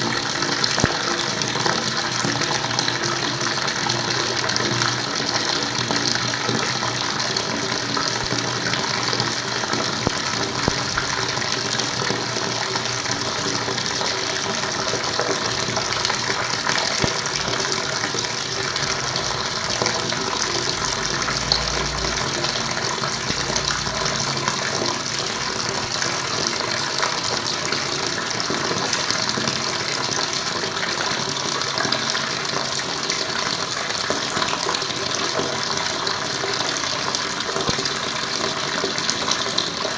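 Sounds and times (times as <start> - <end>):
water gushing and splashing: 0.0 - 39.9.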